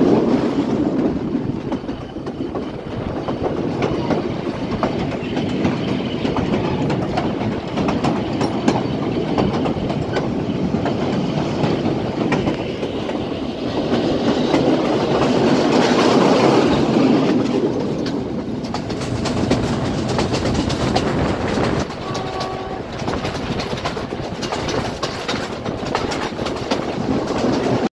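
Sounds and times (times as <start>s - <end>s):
train wheels clacking over rails: 0.0s - 27.9s.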